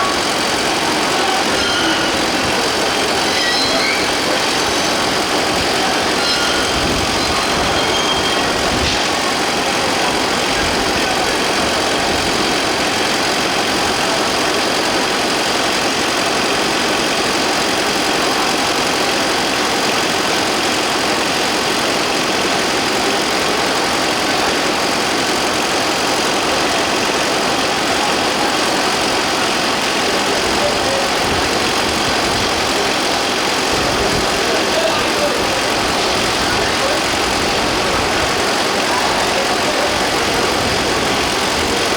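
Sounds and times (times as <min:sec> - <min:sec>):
train engine running: 0:00.0 - 0:41.9.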